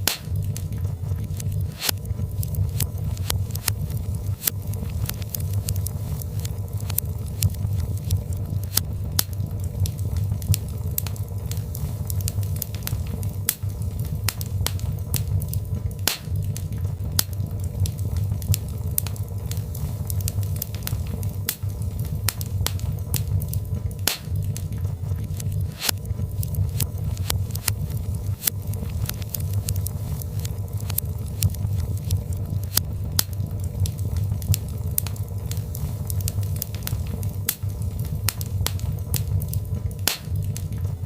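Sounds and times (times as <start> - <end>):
fireplace flames rumbling: 0.0 - 41.0
log fire crackling and popping: 0.0 - 41.0.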